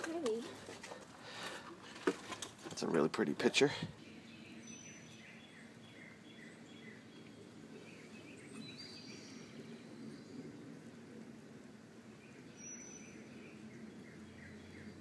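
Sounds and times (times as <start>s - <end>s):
birds chirping: 0.0s - 11.3s, 12.0s - 15.0s
steady low hiss: 0.1s - 15.0s.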